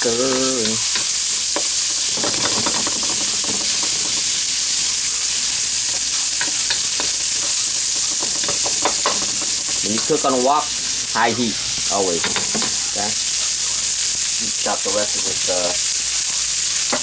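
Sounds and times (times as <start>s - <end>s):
utensil scraping a wok: 0.0s - 13.9s
meat sizzling in a wok: 0.0s - 17.0s.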